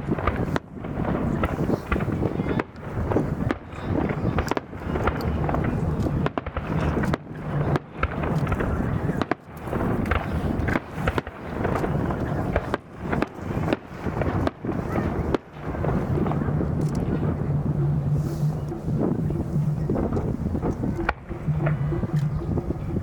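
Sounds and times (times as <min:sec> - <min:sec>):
fireworks bangs: 0:00.0 - 0:23.0
rumble with crackles: 0:00.0 - 0:23.0.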